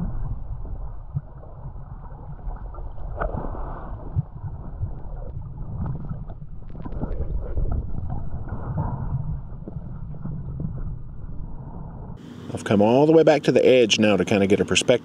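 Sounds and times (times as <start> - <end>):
water sloshing and gurgling: 0.0 - 13.0
low buffeting noise: 0.0 - 15.0.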